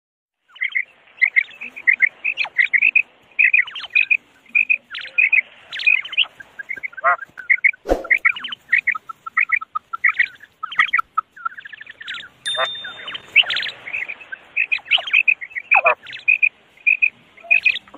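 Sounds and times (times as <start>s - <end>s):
quail chirping calls: 0.5s - 17.9s.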